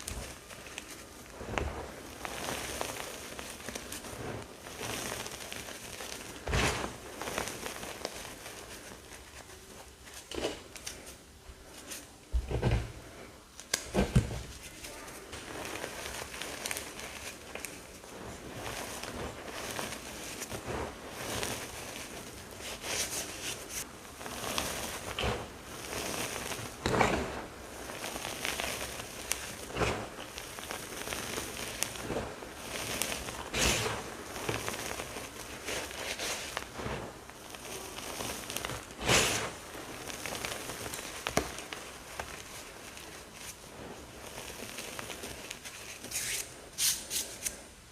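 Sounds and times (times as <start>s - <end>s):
chalk crunching and crumbling: 0.0s - 12.1s, 14.4s - 47.6s.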